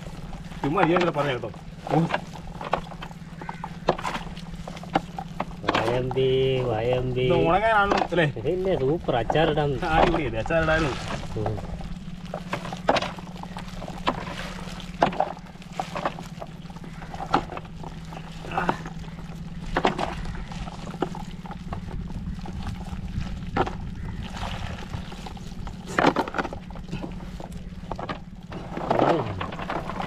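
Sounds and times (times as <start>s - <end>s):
fish flapping in a tub: 0.0s - 30.0s
steady low hum: 0.0s - 30.0s
water splashing and dripping: 0.0s - 30.0s.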